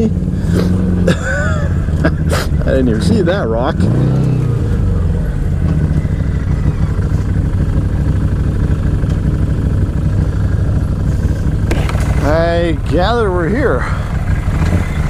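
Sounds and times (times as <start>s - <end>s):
utility vehicle engine droning: 0.0s - 15.0s.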